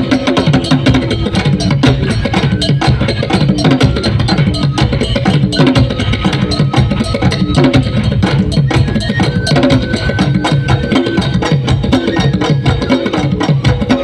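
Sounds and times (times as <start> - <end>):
fast drum music: 0.0 - 14.0.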